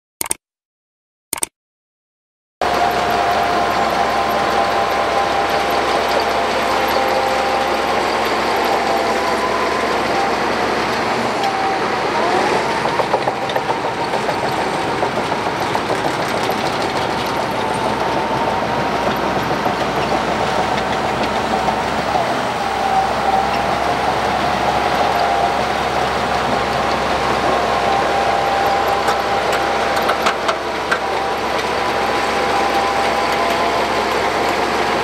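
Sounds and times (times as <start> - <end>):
bulldozer diesel engine running: 2.6 - 35.0
engine whine rising in pitch: 2.6 - 35.0.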